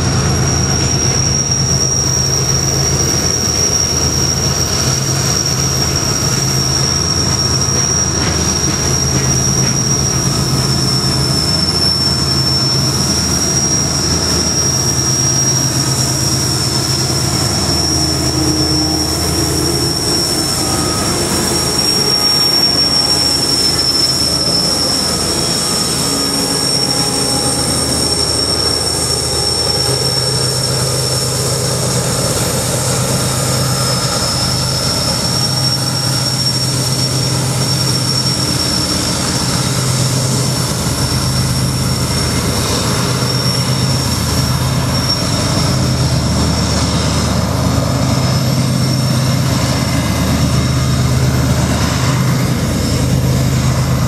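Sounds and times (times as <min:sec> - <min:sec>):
locomotive engine throb: 0:00.0 - 0:54.0
train rolling past: 0:00.0 - 0:54.0
wheel flanges squealing: 0:00.0 - 0:54.0.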